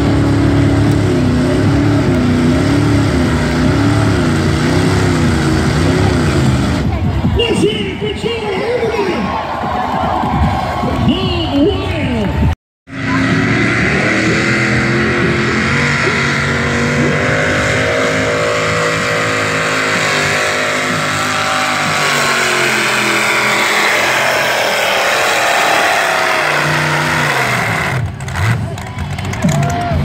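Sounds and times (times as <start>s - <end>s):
truck engine under heavy load: 0.0s - 30.0s.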